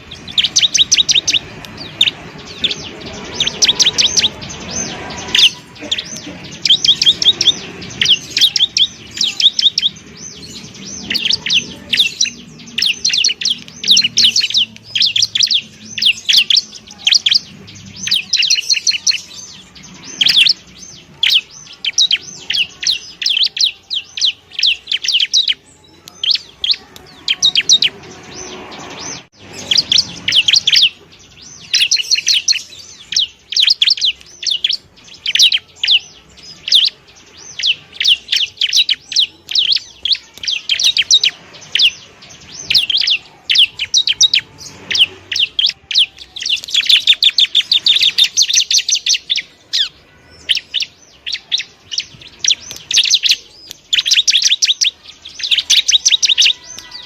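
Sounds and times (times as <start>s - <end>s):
bird singing sharp chattering notes: 0.0s - 57.0s.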